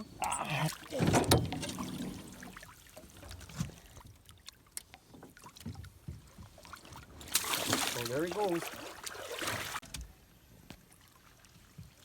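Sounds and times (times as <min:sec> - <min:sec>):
water splashing against a boat: 0:00.0 - 0:09.9.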